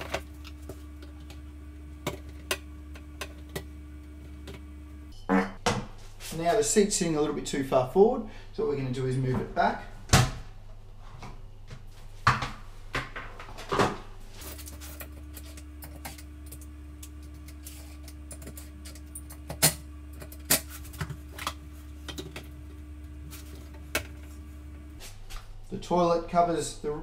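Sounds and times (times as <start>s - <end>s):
steady low hum: 0.0s - 13.0s, 14.0s - 27.0s.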